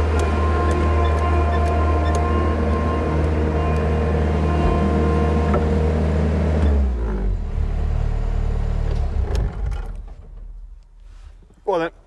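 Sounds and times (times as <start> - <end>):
loader engine running down: 0.0 - 10.7.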